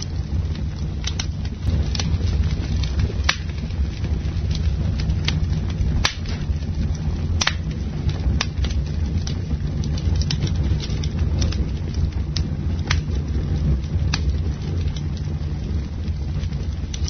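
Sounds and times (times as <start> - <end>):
burning wood crackling and popping: 0.0 - 17.0
campfire flames rumbling: 0.0 - 17.0.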